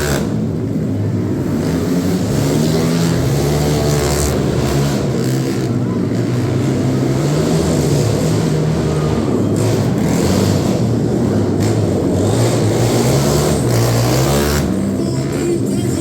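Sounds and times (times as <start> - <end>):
racing engines revving: 0.0 - 16.0.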